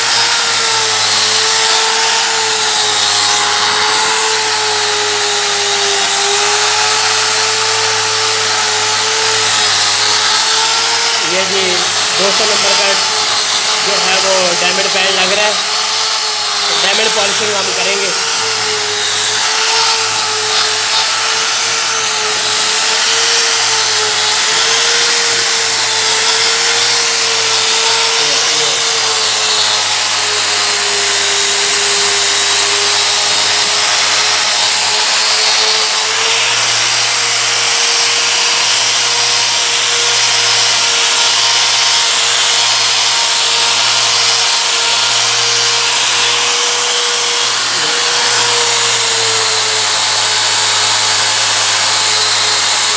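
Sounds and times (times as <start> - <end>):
angle grinder motor whine: 0.0 - 52.9.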